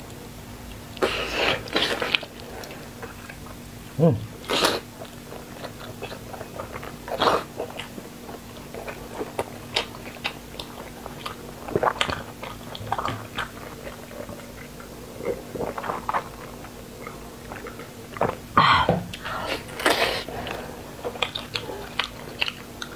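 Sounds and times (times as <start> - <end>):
person chewing meat: 0.0 - 22.9.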